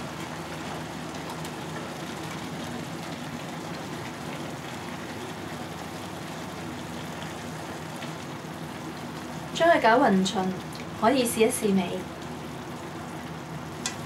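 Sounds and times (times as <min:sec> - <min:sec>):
broth boiling in pot: 0:00.0 - 0:14.0.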